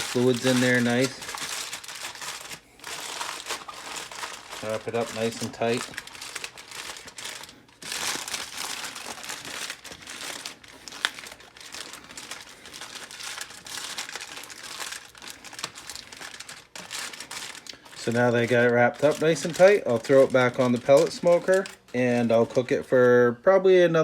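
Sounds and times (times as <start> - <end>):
aluminium foil crinkling: 0.0 - 23.0.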